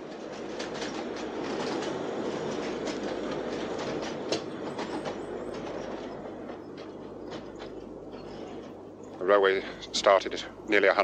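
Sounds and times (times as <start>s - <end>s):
train rumbling on track: 0.0s - 11.0s
wheels clicking on rails: 0.0s - 11.0s.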